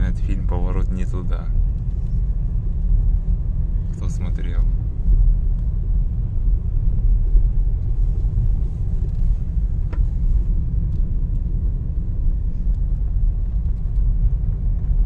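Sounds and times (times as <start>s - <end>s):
car cabin rumble on dirt track: 0.0s - 15.0s.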